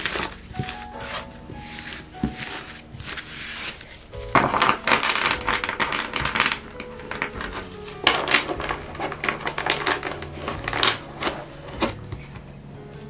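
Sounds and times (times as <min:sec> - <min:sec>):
cards being shuffled: 0:00.0 - 0:12.5.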